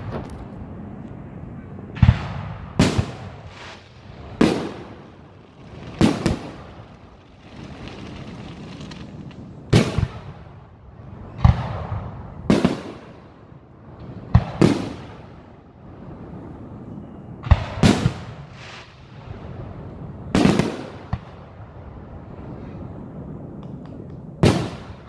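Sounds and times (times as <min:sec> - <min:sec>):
fireworks booming: 0:01.9 - 0:15.5, 0:17.4 - 0:23.0, 0:23.6 - 0:25.0.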